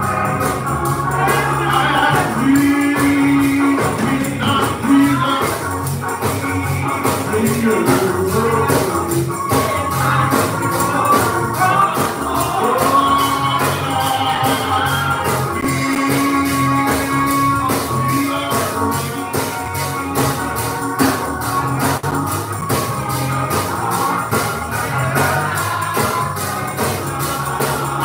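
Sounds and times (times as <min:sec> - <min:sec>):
congregation singing a hymn: 0:00.0 - 0:28.0
electric keyboard: 0:00.0 - 0:28.0
tambourine shaking: 0:00.0 - 0:28.0.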